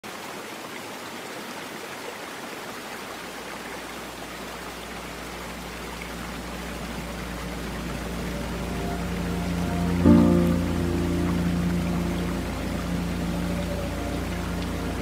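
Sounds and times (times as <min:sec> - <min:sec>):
stream running over stones: 0:00.0 - 0:15.0.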